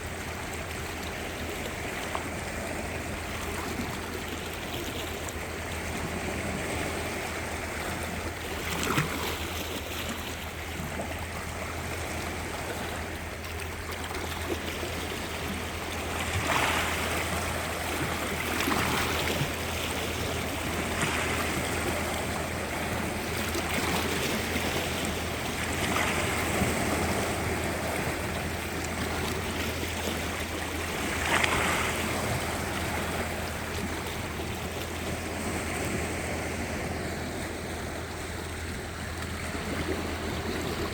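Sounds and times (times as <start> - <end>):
small waves washing on shore: 0.0 - 40.9.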